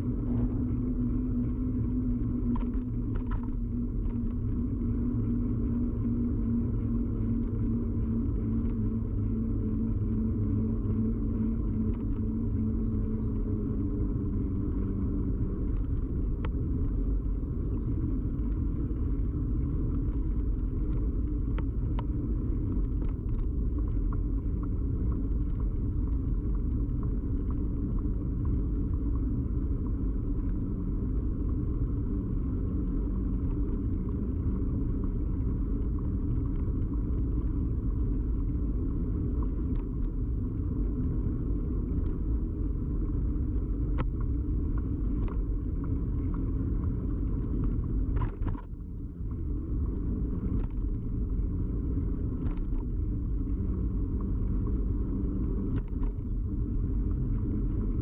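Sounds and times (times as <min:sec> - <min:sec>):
bicycle tyre and frame rumble: 0:00.0 - 0:58.0.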